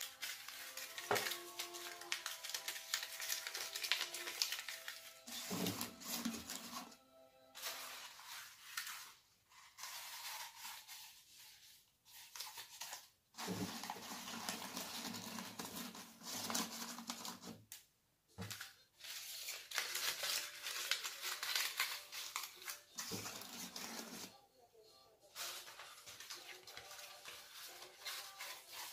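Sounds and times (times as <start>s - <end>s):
cellophane and paper crinkling: 0.0s - 17.8s, 18.4s - 24.4s, 25.2s - 28.9s.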